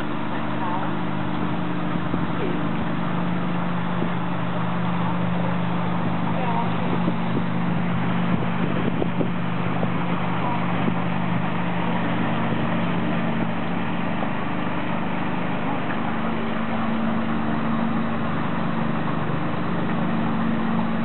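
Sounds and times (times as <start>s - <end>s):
ship diesel engine humming: 0.0s - 21.0s.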